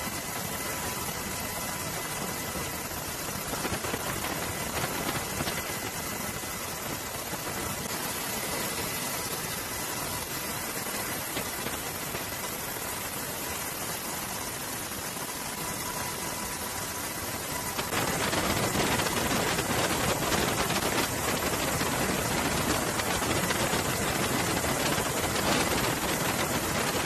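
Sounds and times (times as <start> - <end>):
engine-like drone with hiss: 0.0 - 27.0.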